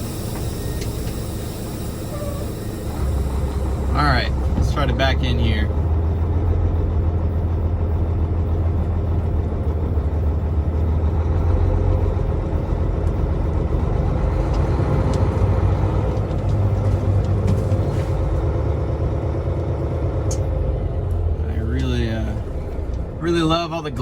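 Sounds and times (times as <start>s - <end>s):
truck diesel engine low drone: 0.0s - 24.0s.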